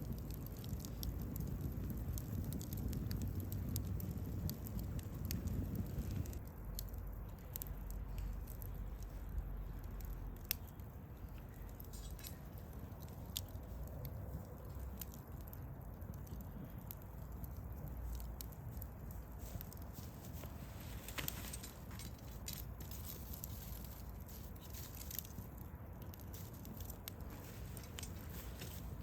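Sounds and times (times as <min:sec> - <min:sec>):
campfire rumble and crackles: 0:00.0 - 0:29.0.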